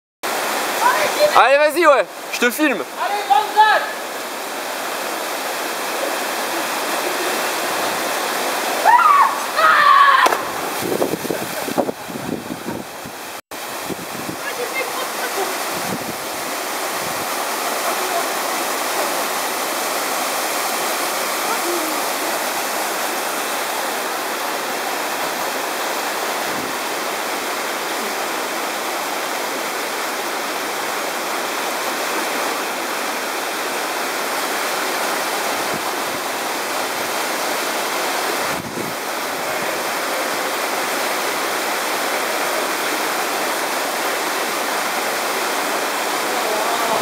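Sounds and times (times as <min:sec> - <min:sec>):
rushing torrent and waterfall: 0:00.2 - 0:47.0.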